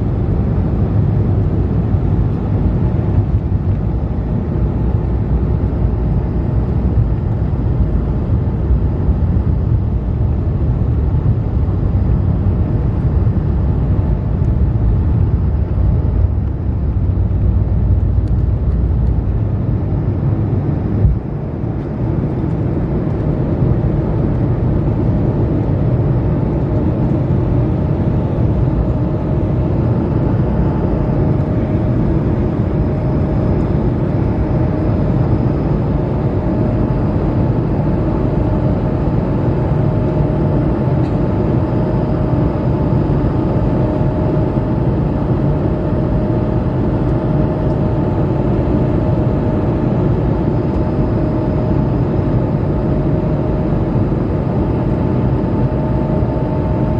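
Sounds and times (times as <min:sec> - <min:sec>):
airliner cabin roar: 0:00.0 - 0:56.9.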